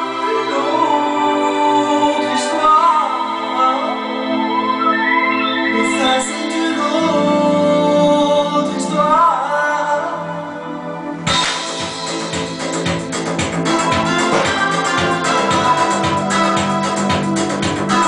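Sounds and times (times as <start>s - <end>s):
person singing: 0.0s - 12.5s, 13.6s - 18.0s
electronic keyboard organ chords: 0.0s - 18.0s.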